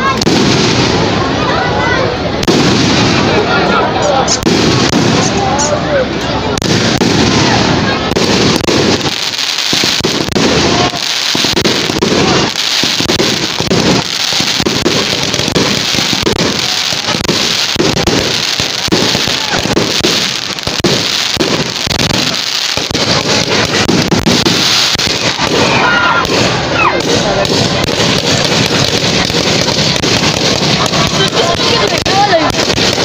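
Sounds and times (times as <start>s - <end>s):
fireworks crackling and bangs: 0.0s - 33.0s.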